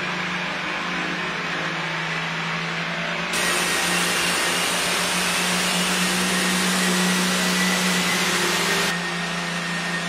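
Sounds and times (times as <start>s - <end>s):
tractor engine running at high revs: 0.0s - 10.0s.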